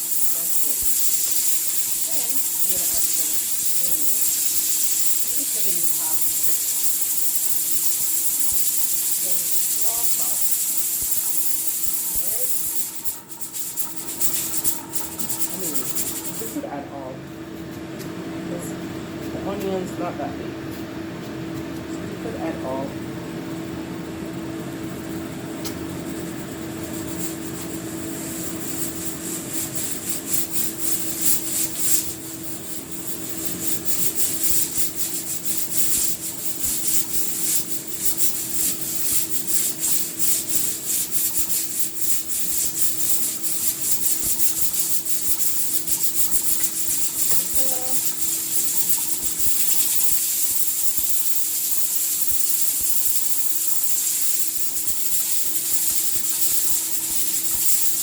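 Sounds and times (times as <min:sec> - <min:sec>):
pot hissing and sputtering: 0:00.0 - 0:16.9, 0:22.8 - 0:58.0
steady low hum: 0:00.0 - 0:51.4.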